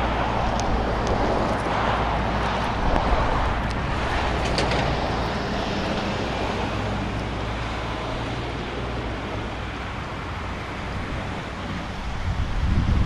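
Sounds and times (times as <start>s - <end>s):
distant diesel locomotive rumble: 0.0s - 13.0s
wind on microphone: 0.0s - 13.0s.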